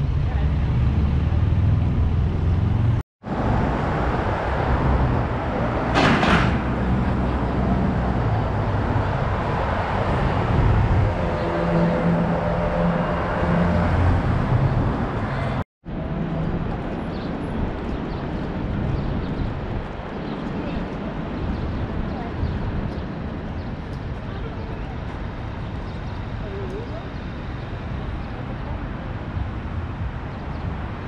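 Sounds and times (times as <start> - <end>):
cars and buses passing: 0.0 - 31.0.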